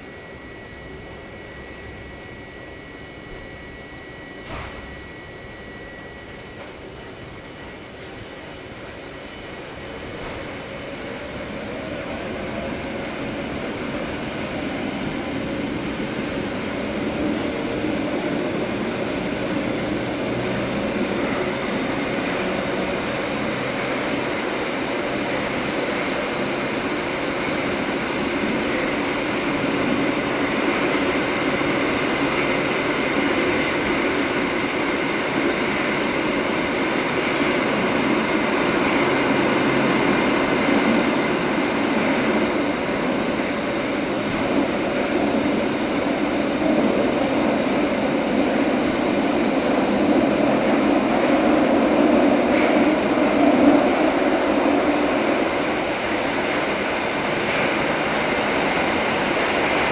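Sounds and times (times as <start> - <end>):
metro train running noise: 0.0 - 59.9.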